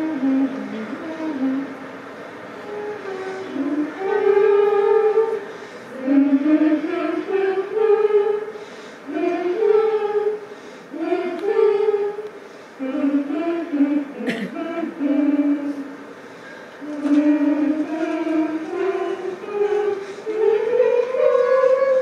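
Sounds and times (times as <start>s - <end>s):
choir singing long held notes: 0.0s - 22.0s.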